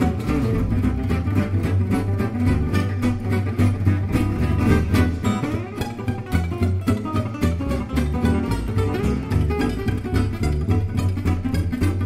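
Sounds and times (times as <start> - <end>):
picked guitar notes: 0.0 - 12.0
plucked double bass: 0.0 - 12.0
strummed acoustic guitar rhythm: 0.0 - 12.0.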